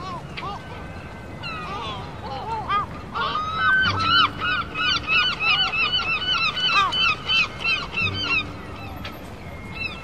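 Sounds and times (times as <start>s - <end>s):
gulls calling: 0.0s - 10.0s.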